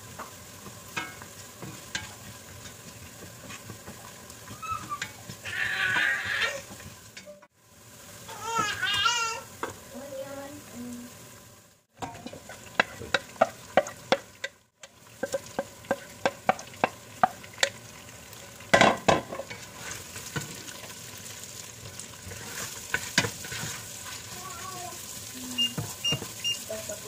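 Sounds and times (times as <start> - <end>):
onions sizzling in hot oil: 0.0 - 27.0
wooden spoon stirring in a pot: 0.0 - 27.0.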